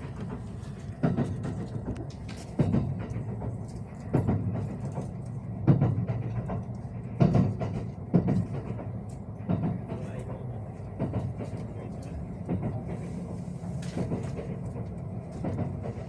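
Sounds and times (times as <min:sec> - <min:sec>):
train rumble: 0:00.0 - 0:16.0
train wheels clacking over rail joints: 0:00.0 - 0:16.0.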